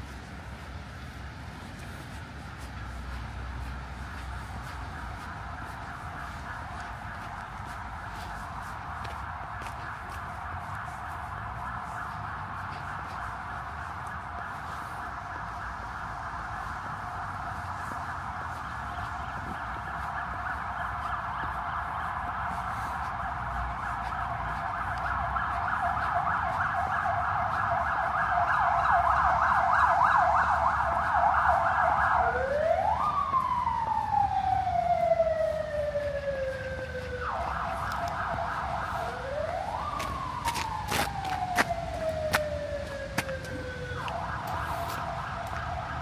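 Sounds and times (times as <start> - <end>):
emergency vehicle siren: 0.0 - 46.0.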